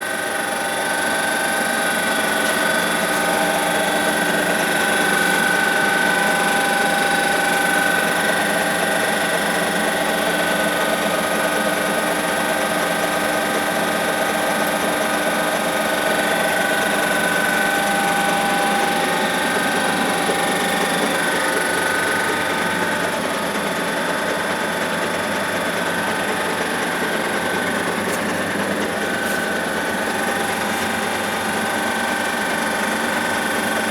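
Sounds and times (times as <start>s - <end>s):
grinder machine hum: 0.0s - 33.9s
steady machine whine: 0.0s - 33.9s.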